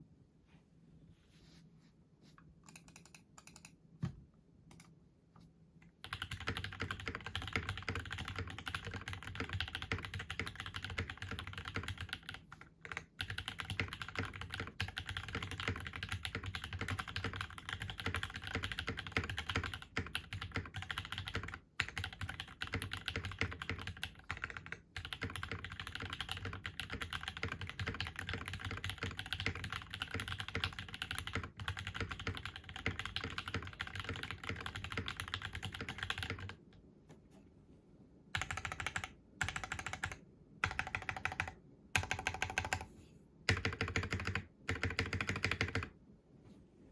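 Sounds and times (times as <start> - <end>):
mechanical keyboard typing: 2.7 - 3.8, 6.0 - 36.6, 38.4 - 42.9, 43.5 - 45.9.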